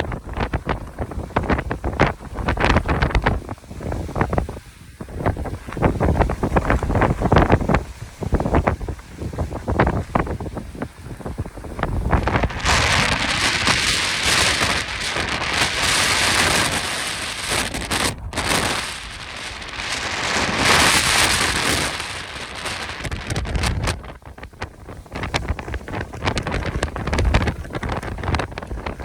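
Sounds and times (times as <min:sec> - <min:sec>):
gusty wind rushing: 0:00.0 - 0:29.0
wind buffeting microphone: 0:00.0 - 0:29.0.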